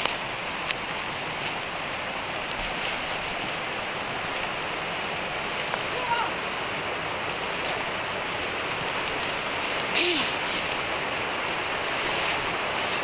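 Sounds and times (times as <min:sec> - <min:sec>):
rain falling through woods: 0:00.0 - 0:13.0.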